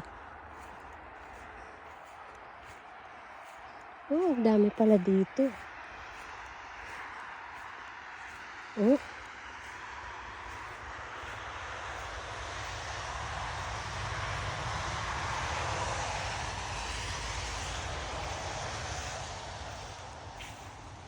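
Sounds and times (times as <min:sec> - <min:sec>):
aircraft engine drone overhead: 0:00.0 - 0:21.0.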